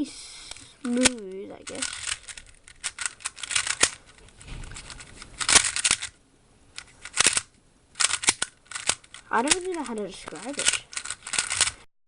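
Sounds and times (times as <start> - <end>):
puzzle cube clicking: 0.4 - 11.8.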